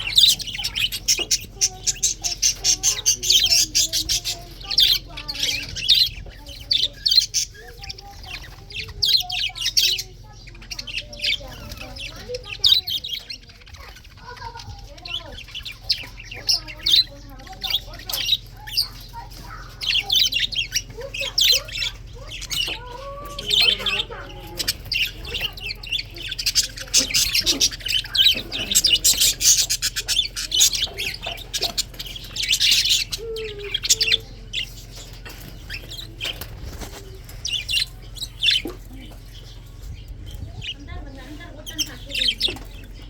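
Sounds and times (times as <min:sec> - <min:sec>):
budgerigars chirping and chattering: 0:00.0 - 0:43.0.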